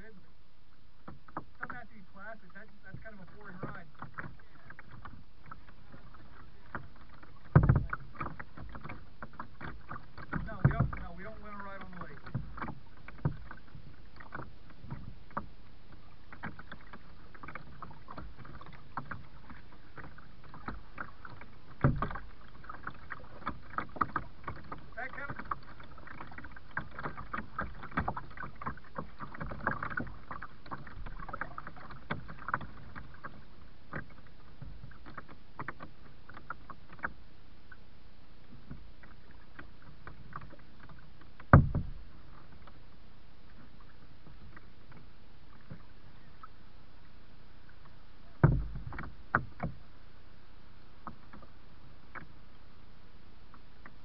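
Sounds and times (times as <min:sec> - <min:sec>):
water wash from paddling: 0:00.0 - 0:54.0
small clicks and splashes: 0:01.0 - 0:49.8, 0:51.0 - 0:52.5, 0:53.5 - 0:54.0.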